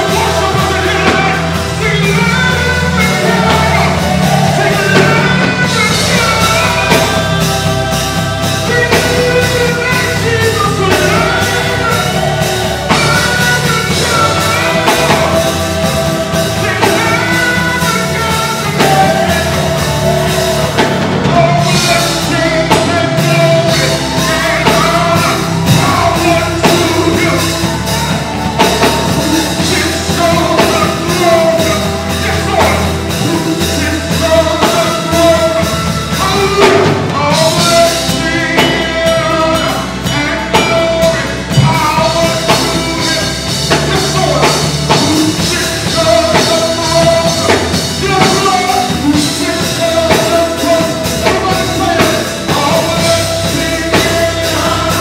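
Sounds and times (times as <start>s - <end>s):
gospel band with drums: 0.0s - 55.0s
person singing into a microphone: 0.0s - 55.0s.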